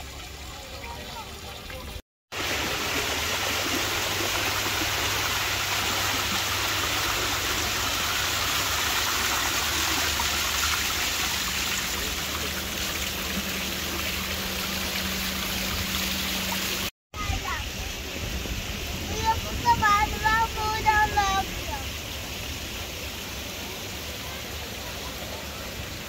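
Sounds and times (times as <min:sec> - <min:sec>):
water cascading down stone steps: 0:00.0 - 0:26.0.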